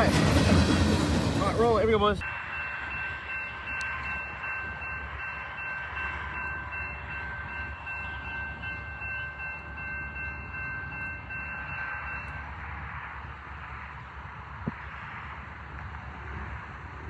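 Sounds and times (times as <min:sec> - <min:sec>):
train passing rumble: 0:00.0 - 0:17.0.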